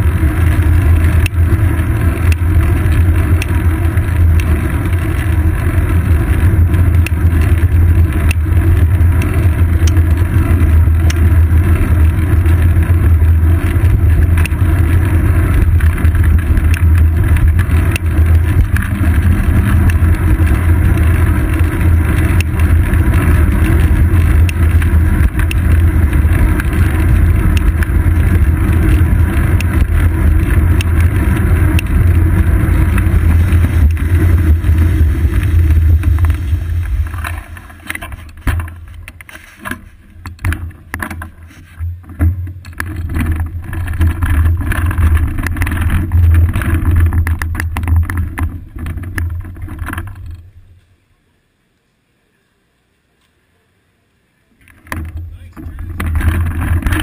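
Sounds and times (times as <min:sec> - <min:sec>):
knocks and rattles: 0:00.0 - 0:50.6, 0:54.6 - 0:57.0
bicycle road rumble: 0:00.0 - 0:57.0.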